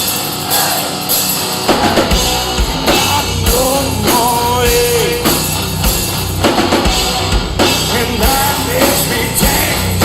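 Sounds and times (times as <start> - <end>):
drum kit hits: 0.0 - 10.0
rock band playing: 0.0 - 10.0.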